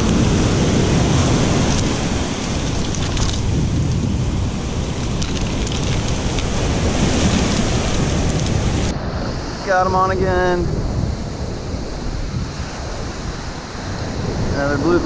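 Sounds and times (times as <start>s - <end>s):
surf washing up the beach: 0.0s - 15.0s
wind rumbling on microphone: 0.0s - 15.0s.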